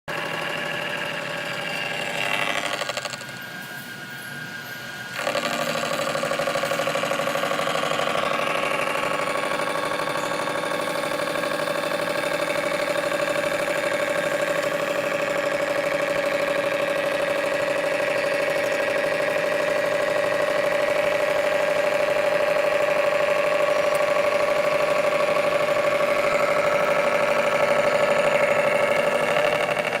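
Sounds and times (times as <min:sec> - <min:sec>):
milling machine whine: 0:00.1 - 0:30.0.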